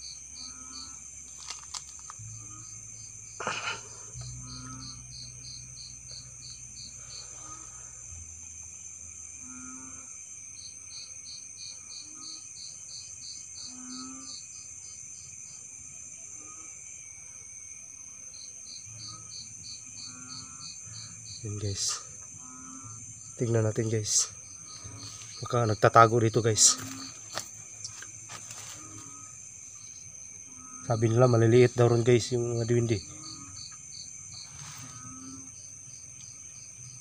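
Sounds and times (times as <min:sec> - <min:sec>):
cricket chirping: 0:00.0 - 0:37.0
insects trilling: 0:00.0 - 0:37.0.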